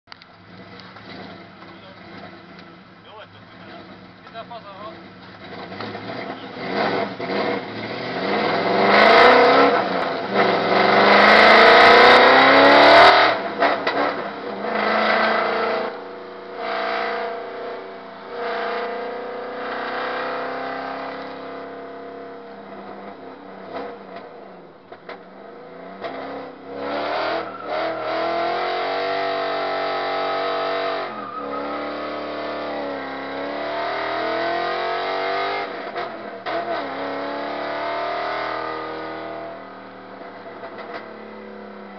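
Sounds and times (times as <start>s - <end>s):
car engine revving: 0.1s - 41.9s.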